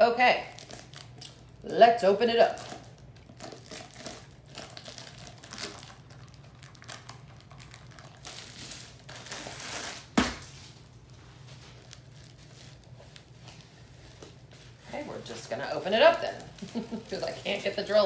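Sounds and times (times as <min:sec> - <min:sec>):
steady low hum: 0:00.0 - 0:18.0
canvas rustling and crinkling: 0:02.4 - 0:18.0.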